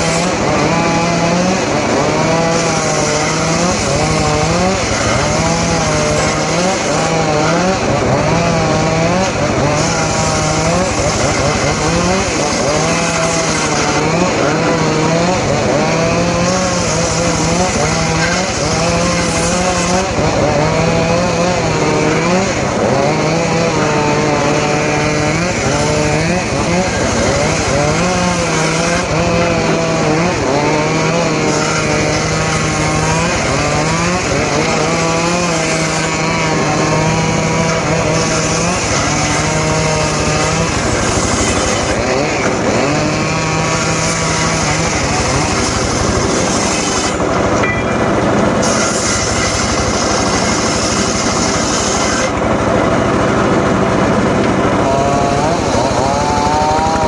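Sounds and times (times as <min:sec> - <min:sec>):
engine-driven saw cutting wood: 0:00.0 - 0:57.0.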